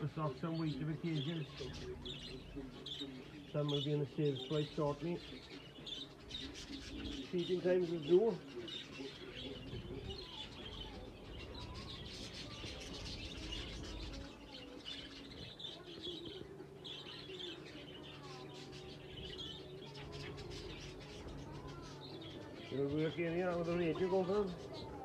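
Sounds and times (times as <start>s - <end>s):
budgerigars chattering and chirping: 0.0s - 25.0s.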